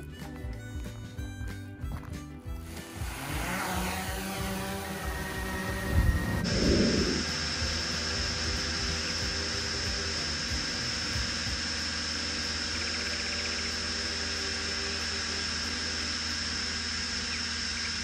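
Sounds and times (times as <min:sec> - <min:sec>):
drone propellers buzzing: 0:02.4 - 0:18.0
high whine: 0:02.6 - 0:18.0.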